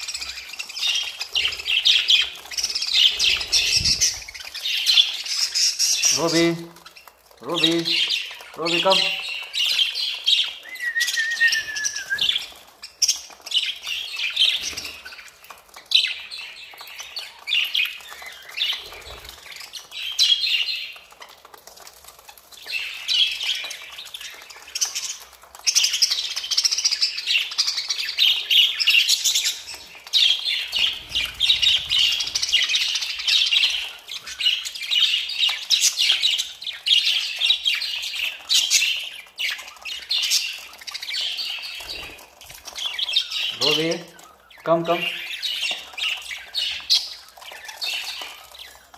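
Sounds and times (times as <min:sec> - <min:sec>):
budgerigars chirping and chattering: 0:00.0 - 0:48.9.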